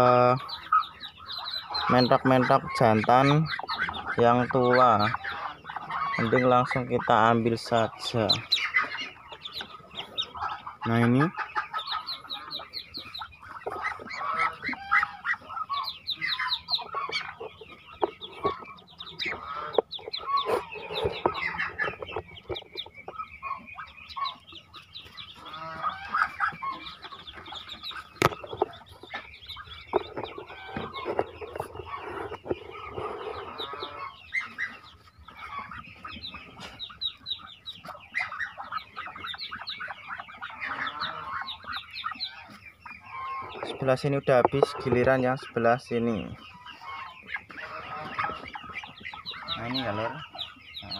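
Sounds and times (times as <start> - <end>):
ducklings peeping: 0.0 - 50.9.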